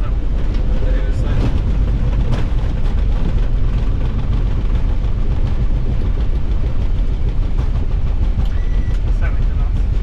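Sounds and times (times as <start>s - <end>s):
low rumble of wheels and engines: 0.0s - 10.0s.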